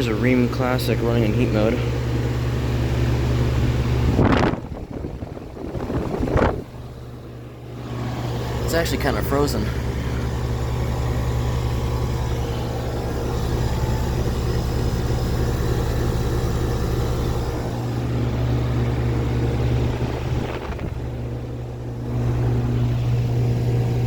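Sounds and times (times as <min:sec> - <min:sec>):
compressor hum: 0:00.0 - 0:24.0
fan airflow noise: 0:00.0 - 0:24.0.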